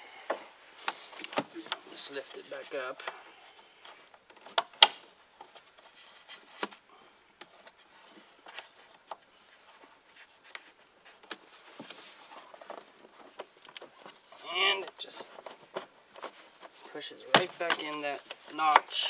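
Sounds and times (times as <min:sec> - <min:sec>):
faint rustling: 0:00.0 - 0:19.0.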